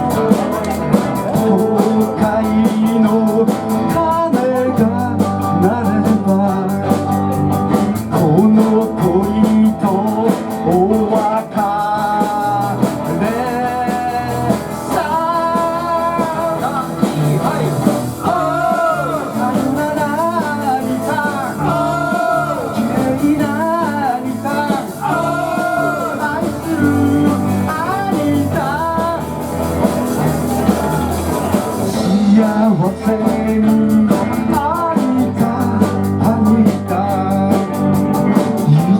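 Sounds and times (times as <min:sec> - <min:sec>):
lead guitar melody: 0:00.0 - 0:38.9
live rock and roll band: 0:00.0 - 0:38.9.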